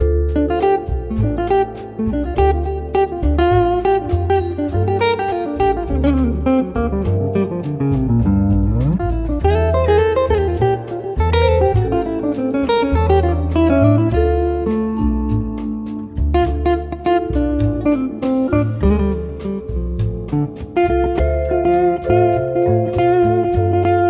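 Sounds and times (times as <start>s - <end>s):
guitar-led background music: 0.0s - 24.0s.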